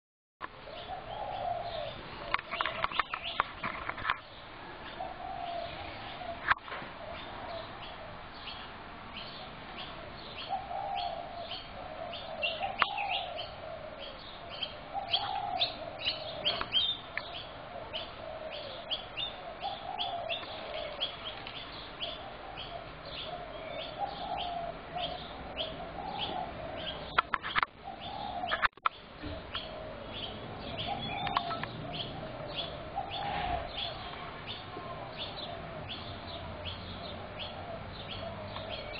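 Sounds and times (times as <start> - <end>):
small birds chirping: 0.4 - 38.9
doves cooing: 0.6 - 38.9.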